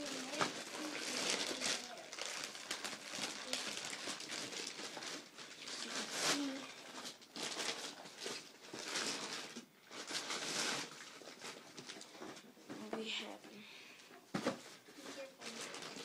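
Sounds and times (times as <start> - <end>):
plastic bag rustling and crinkling: 0.0 - 13.5, 14.3 - 16.0.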